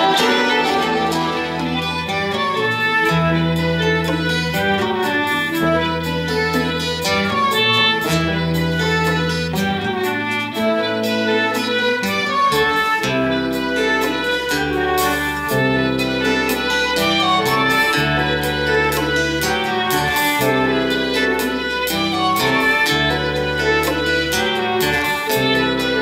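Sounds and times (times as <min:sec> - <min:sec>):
guitar: 0:00.0 - 0:26.0
held bass line: 0:00.0 - 0:26.0
steady beat: 0:00.0 - 0:26.0
violin melody: 0:00.0 - 0:26.0.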